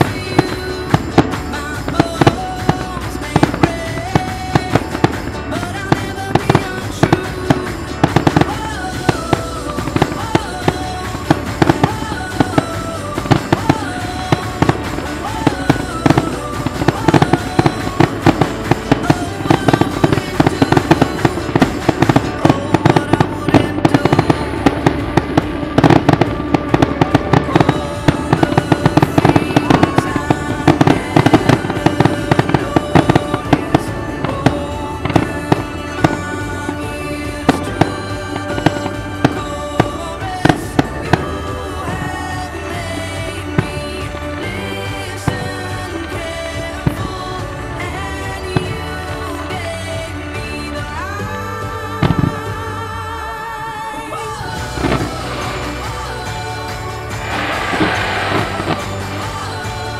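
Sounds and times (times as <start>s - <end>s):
fireworks bangs and crackles: 0.0s - 59.9s
music playing: 0.0s - 59.9s.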